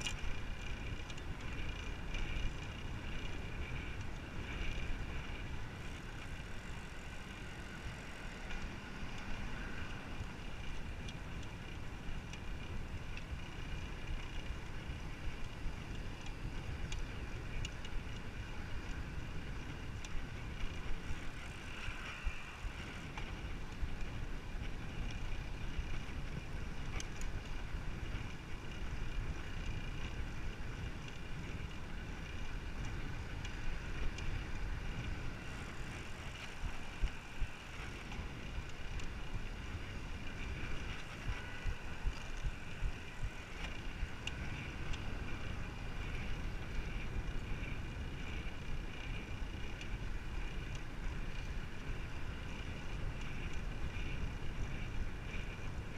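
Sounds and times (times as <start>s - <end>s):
faint ticks: 0.0s - 55.9s
wind rushing over microphone: 0.0s - 55.9s.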